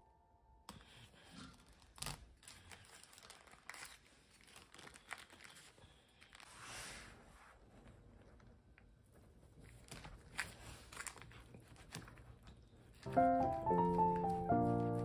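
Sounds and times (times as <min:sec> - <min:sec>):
baking paper crinkling: 0:00.8 - 0:15.0.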